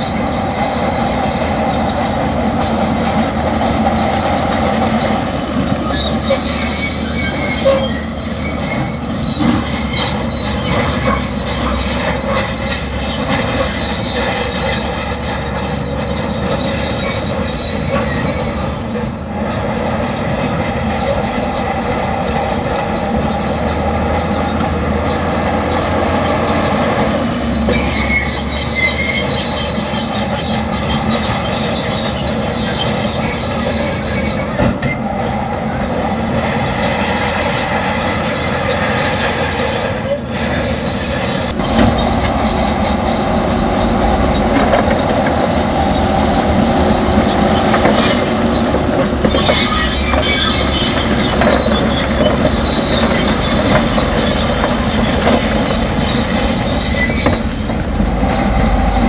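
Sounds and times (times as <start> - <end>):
diesel engine under load: 0.0 - 59.0
steel tracks squealing and clanking: 0.0 - 59.0.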